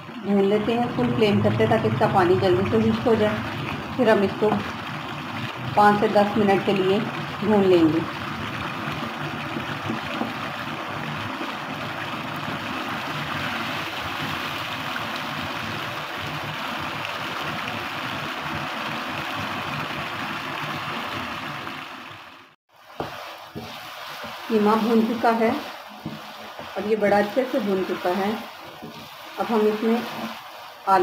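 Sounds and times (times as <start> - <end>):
meat sizzling in a wok: 2.9 - 31.0.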